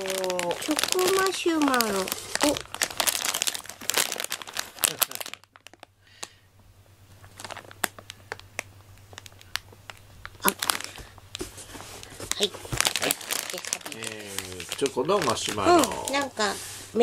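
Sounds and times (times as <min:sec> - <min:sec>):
plastic bag and paper crinkling: 0:00.0 - 0:06.4, 0:07.1 - 0:17.0.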